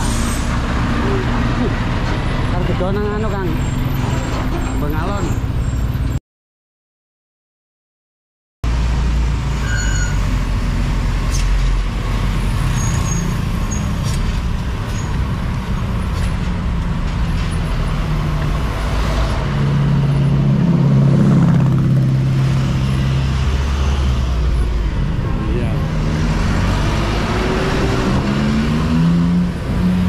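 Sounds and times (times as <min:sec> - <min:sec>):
diesel truck engines droning: 0:00.0 - 0:06.2, 0:08.7 - 0:30.0.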